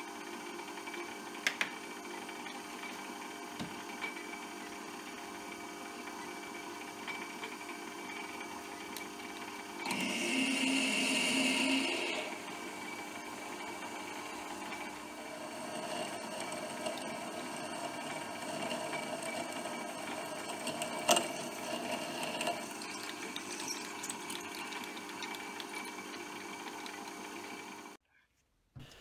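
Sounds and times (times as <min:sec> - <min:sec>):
metal lathe motor hum: 0:01.8 - 0:28.0.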